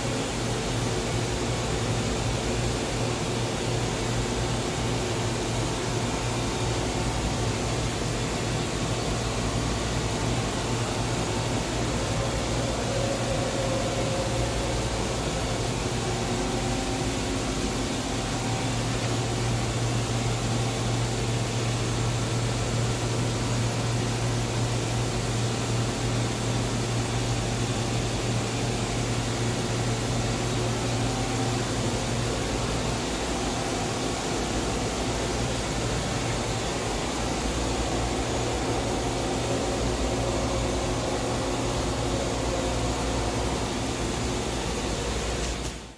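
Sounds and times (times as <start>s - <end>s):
machining center mechanical hum: 0.0s - 45.9s.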